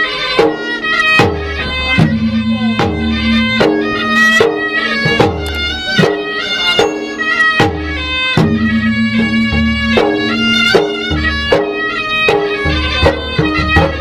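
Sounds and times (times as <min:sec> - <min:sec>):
drums beating steady rhythm: 0:00.0 - 0:14.0
reedy wind instrument: 0:00.0 - 0:14.0.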